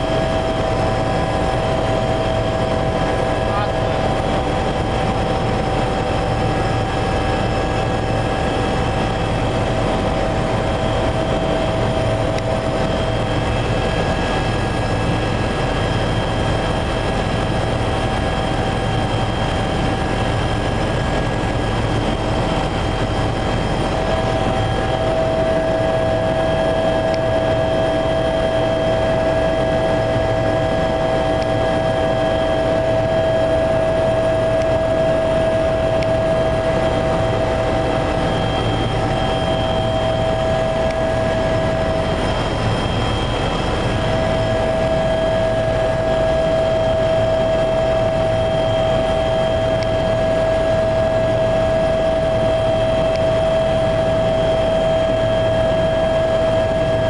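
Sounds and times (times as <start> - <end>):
constant whining tones: 0.0 - 57.0
helicopter rotor and engine drone: 0.0 - 57.0.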